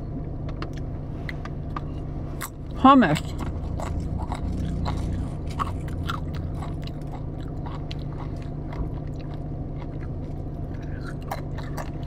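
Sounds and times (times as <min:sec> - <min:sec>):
steady low hum: 0:00.0 - 0:12.0
person chewing crunchy snack: 0:01.7 - 0:12.0.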